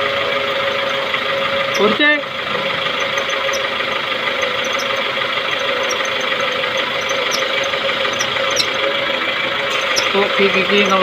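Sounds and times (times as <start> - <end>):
car engine running: 0.0 - 11.0
drive belt squealing: 0.0 - 11.0.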